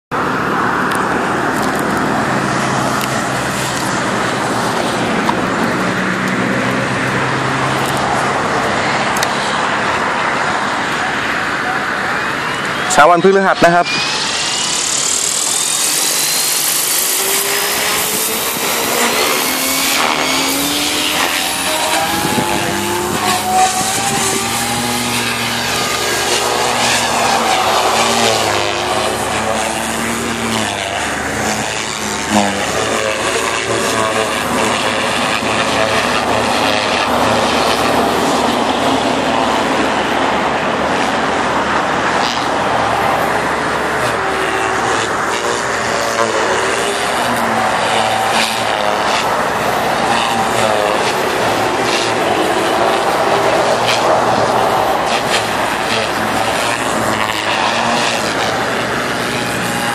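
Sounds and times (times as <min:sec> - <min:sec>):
rc helicopter motor and rotor whine: 0:00.2 - 0:59.9.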